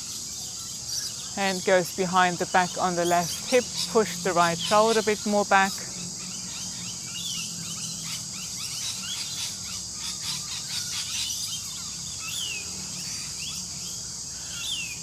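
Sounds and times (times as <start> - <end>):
birds calling and chirping: 0.0 - 15.0
high insect chorus: 0.0 - 15.0.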